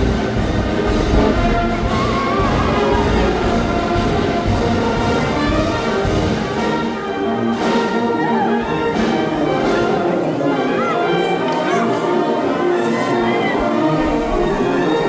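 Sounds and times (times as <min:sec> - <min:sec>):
brass playing sustained chords: 0:00.0 - 0:15.0.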